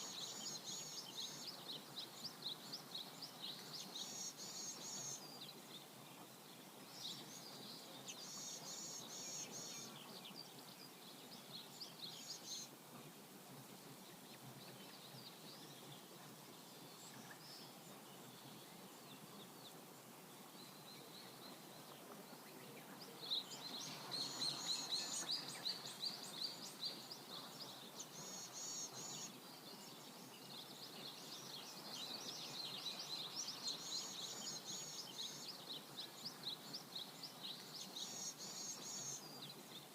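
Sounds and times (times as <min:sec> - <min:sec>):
river flowing: 0:00.0 - 0:22.5, 0:23.1 - 0:39.9
songbirds trilling and chirping: 0:00.0 - 0:39.9.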